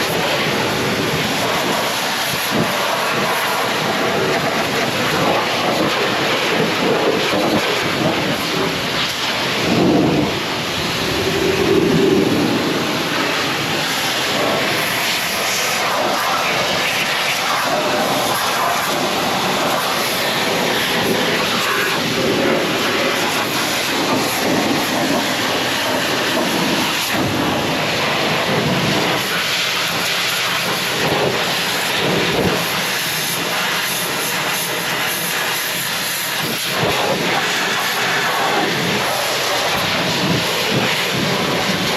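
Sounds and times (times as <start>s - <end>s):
pressure washer spraying water: 0.0s - 41.9s.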